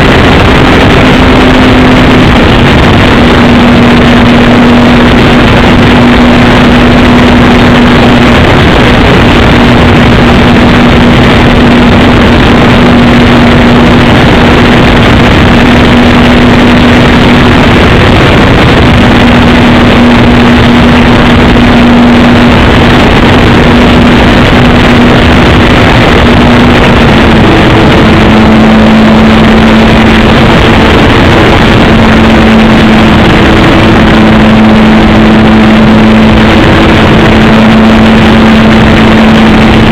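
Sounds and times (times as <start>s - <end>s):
loud overdriven hiss: 0.0s - 39.9s
model aeroplane engine drone: 0.0s - 39.9s.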